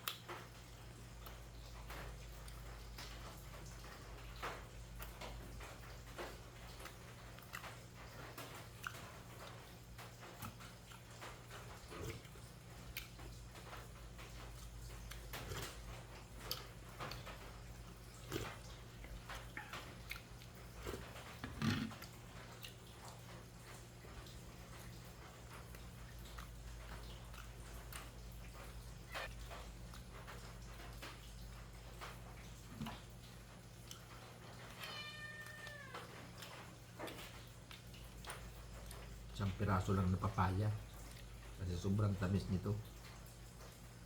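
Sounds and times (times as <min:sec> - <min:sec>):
mouth smacks and chewing: 0:00.0 - 0:03.9, 0:04.6 - 0:34.8, 0:35.6 - 0:39.4, 0:40.9 - 0:41.6
faint steady hum: 0:00.0 - 0:44.0.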